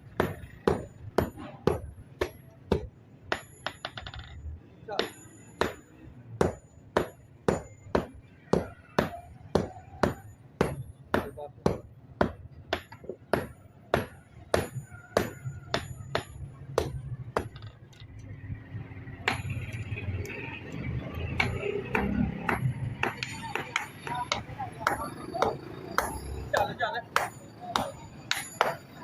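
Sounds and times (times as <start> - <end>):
hammer striking iron on anvil: 0.1 - 4.3, 4.9 - 5.8, 6.4 - 17.8, 19.2 - 19.8, 21.3 - 29.0.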